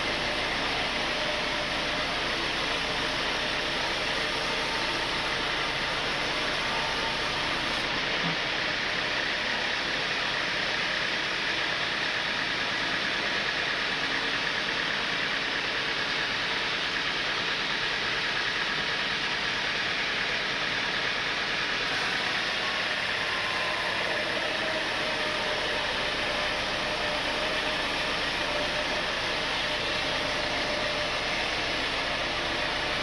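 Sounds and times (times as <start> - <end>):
sawmill machinery running: 0.0 - 33.0.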